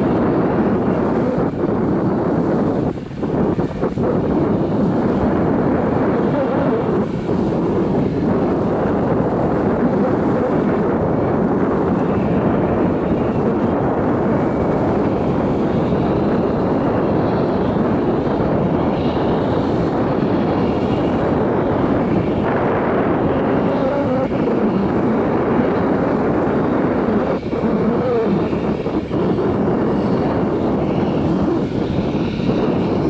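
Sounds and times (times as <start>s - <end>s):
jet engine roaring: 0.0s - 33.0s
wind on microphone: 0.0s - 33.0s.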